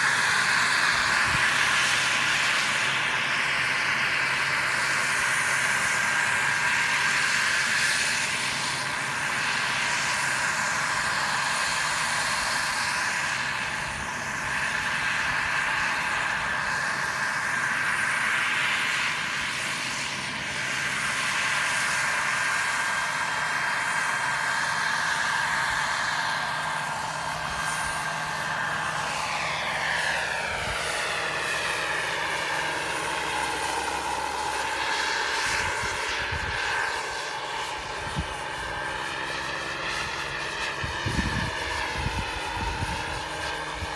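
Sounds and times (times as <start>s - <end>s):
model helicopter whine: 0.0s - 43.9s.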